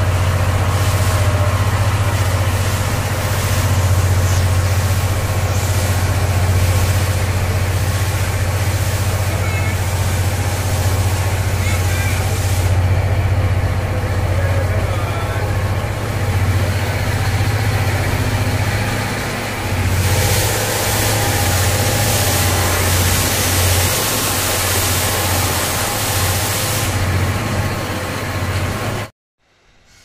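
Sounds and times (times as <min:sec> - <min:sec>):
loud hiss: 0:00.0 - 0:12.8, 0:15.4 - 0:27.2, 0:29.7 - 0:30.0
train running rumble: 0:00.0 - 0:29.1.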